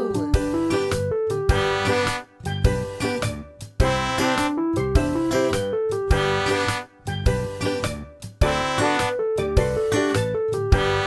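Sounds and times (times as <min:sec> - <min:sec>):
upbeat instrumental children's music: 0:00.0 - 0:11.0.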